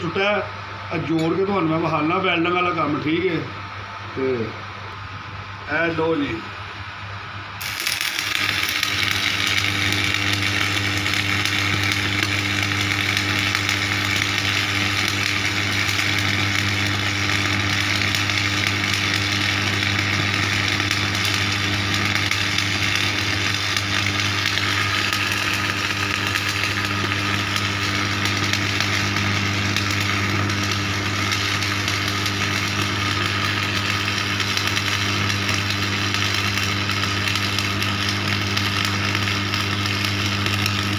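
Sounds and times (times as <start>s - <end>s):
arc welding crackling sizzle: 0.0s - 40.9s
welding machine mains hum: 0.0s - 40.9s.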